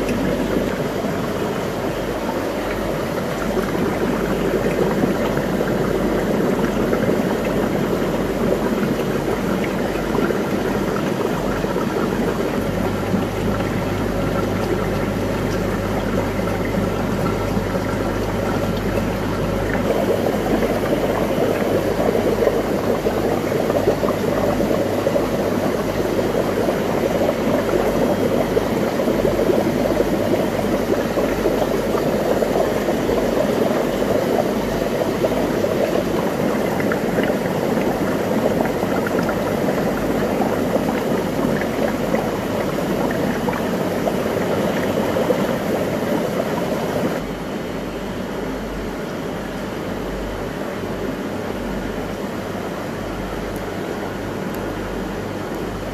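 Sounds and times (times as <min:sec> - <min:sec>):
aquarium water bubbling: 0:00.0 - 0:55.9.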